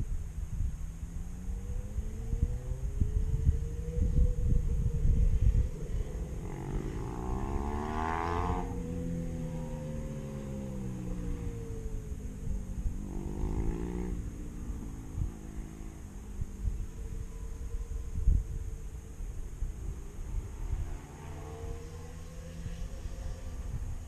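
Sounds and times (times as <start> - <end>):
motorcycles accelerating past: 0.6 - 24.0.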